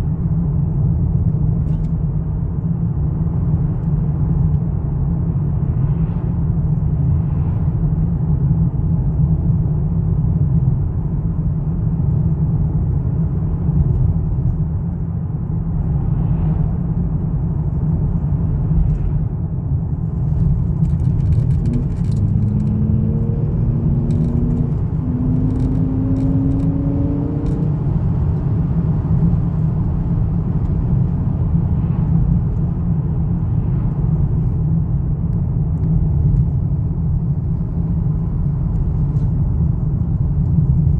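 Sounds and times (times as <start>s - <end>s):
car engine rumbling: 0.0s - 40.9s.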